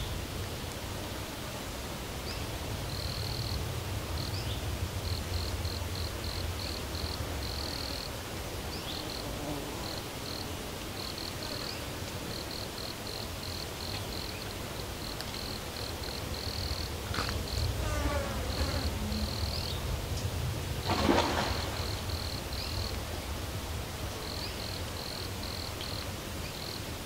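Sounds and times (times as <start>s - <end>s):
cricket chirping: 2.3s - 27.0s.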